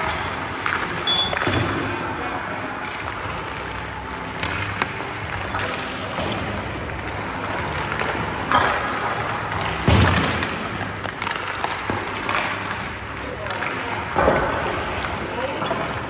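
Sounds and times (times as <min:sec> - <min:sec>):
hockey stick clacking puck: 0:00.0 - 0:01.8, 0:02.8 - 0:15.8
puck shots: 0:00.0 - 0:16.0.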